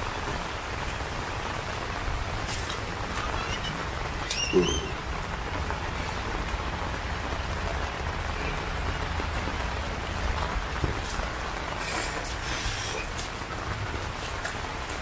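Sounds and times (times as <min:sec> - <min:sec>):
rain falling on wet ground: 0:00.0 - 0:15.0.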